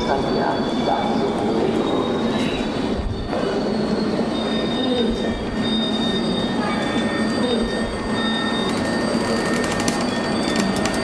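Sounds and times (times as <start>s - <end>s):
rail car rumbling: 0.0s - 11.0s
wheels squealing: 0.0s - 11.0s.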